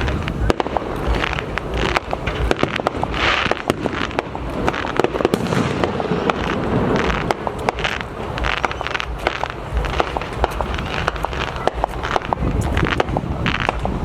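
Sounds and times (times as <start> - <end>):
fireworks cracking and popping: 0.0 - 14.0
rumble of bursting shells: 0.0 - 14.0.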